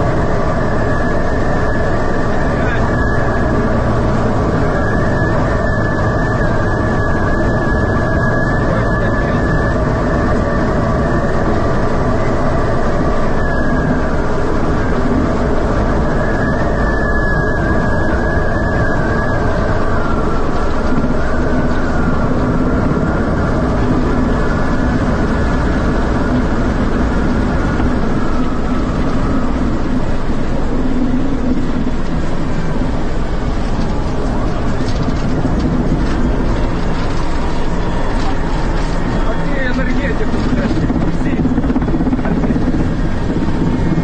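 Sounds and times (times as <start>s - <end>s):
helicopter engine and rotor drone: 0.0s - 44.0s
high whine: 0.0s - 44.0s.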